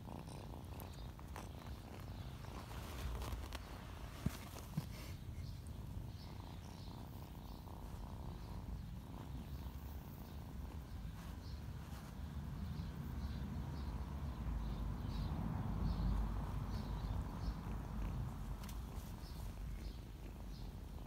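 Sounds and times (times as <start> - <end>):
kitten purring: 0.0 - 21.0.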